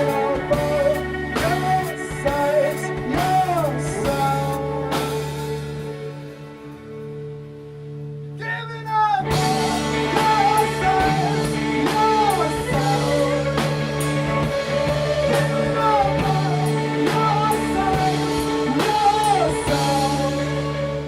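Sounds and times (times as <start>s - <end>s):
person singing: 0.0s - 6.2s, 8.4s - 21.0s
guitar and keyboard chords: 0.0s - 21.0s.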